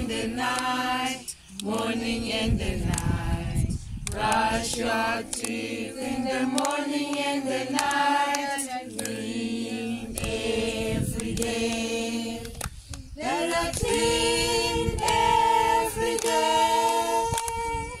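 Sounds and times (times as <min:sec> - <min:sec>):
children singing together: 0:00.0 - 0:03.5, 0:04.1 - 0:12.4, 0:13.2 - 0:18.0
hand claps: 0:00.4 - 0:00.8, 0:01.5 - 0:02.0, 0:02.8 - 0:09.4, 0:10.1 - 0:10.4, 0:11.0 - 0:18.0.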